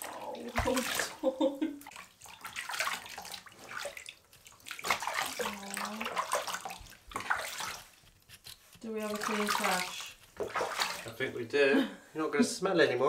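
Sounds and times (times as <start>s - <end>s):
water splashing in bathtub: 0.0s - 11.7s.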